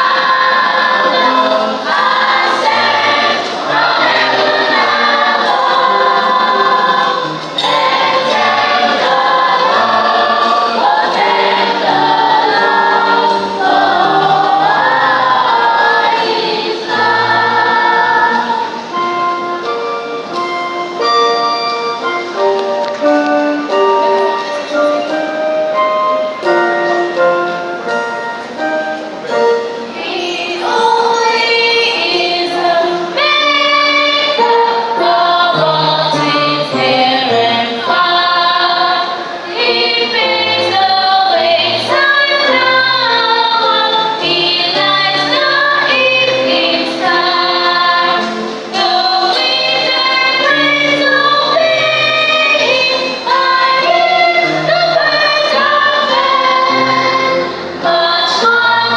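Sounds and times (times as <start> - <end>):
choir singing gospel: 0.0 - 58.9
instrumental accompaniment: 0.0 - 58.9.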